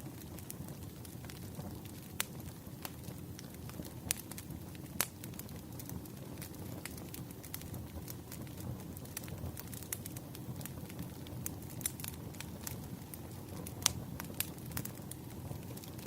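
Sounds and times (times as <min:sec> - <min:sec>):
bonfire crackling: 0:00.0 - 0:16.0
low rumble of burning wood: 0:00.0 - 0:16.0
sharp pops of burning wood: 0:00.2 - 0:16.0.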